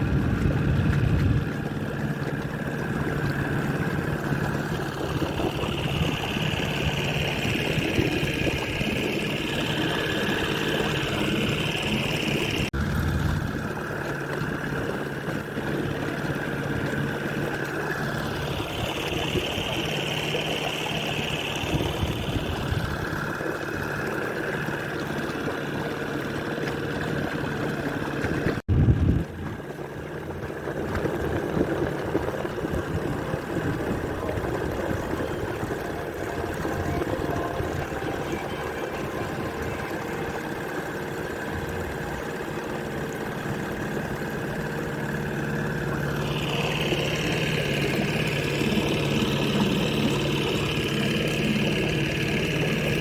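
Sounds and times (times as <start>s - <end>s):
boat motor running: 0.0s - 53.0s
high motor whine: 0.0s - 53.0s.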